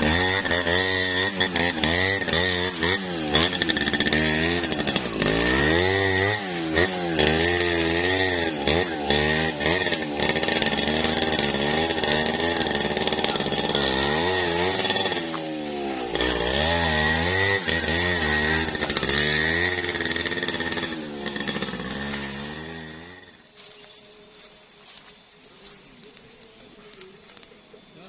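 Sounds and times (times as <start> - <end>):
chainsaw cutting wood: 0.0 - 23.8.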